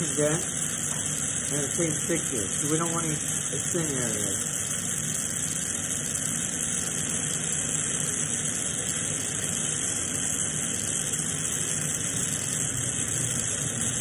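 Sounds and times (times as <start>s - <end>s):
torch burning with even hiss: 0.0s - 14.0s.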